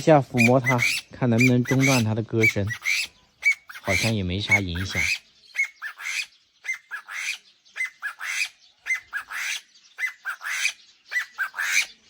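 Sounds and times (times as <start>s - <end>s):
bird calling loudly: 0.0s - 12.0s.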